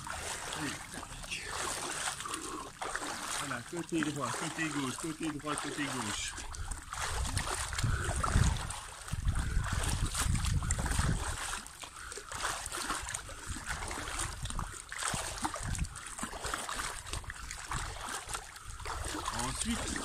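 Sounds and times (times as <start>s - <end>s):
pool water splashing: 0.0s - 20.0s.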